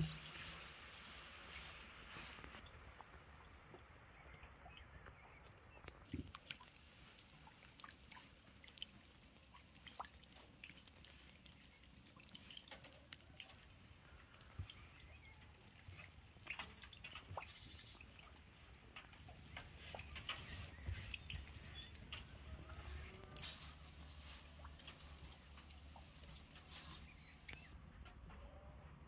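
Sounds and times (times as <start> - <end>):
quiet outdoor ambience: 0.0 - 29.0
rainwater drips: 0.0 - 29.0.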